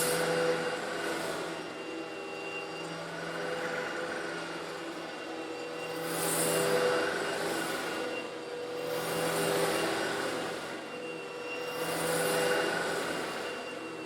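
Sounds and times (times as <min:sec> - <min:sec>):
vacuum cleaner motor hum: 0:00.0 - 0:14.0.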